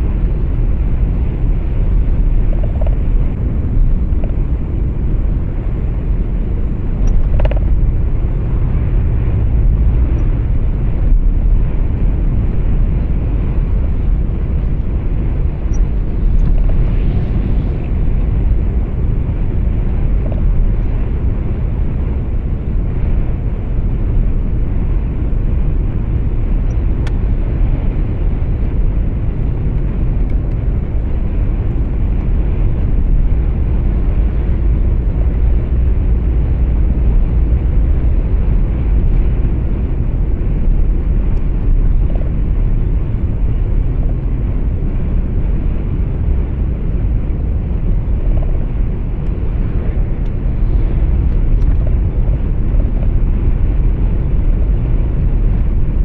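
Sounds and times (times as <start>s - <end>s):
truck engine and tyres rumbling: 0.0s - 56.0s.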